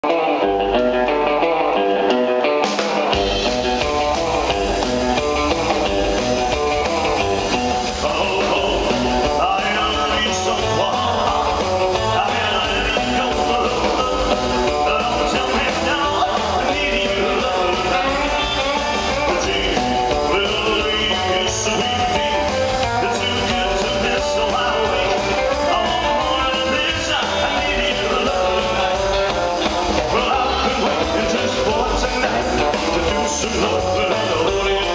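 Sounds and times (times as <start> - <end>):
electric guitar: 0.0 - 34.9
drum beat: 2.6 - 34.9
upright double bass: 3.1 - 34.9
man singing: 3.2 - 34.9.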